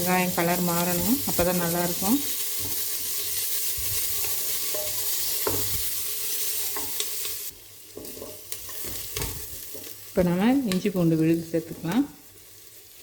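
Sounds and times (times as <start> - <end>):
onions sizzling in hot ghee: 0.0 - 13.0.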